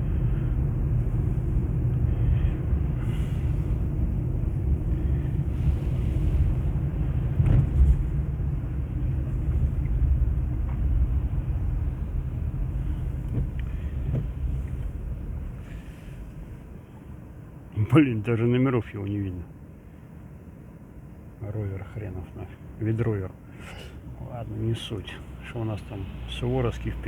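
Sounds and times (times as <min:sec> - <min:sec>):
car engine and tyres rumbling: 0:00.0 - 0:27.0.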